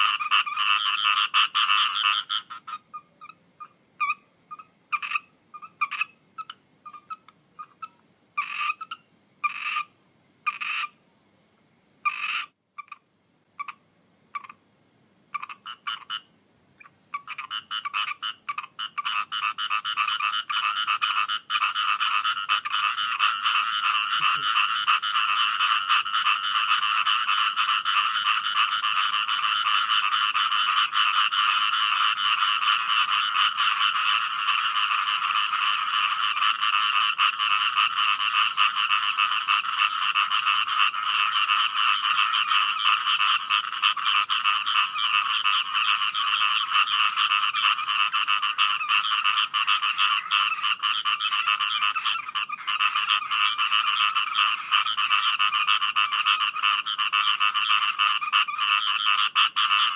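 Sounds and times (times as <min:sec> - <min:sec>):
chorus of frogs calling: 0:00.0 - 0:11.1, 0:12.0 - 0:14.6, 0:15.3 - 0:59.9.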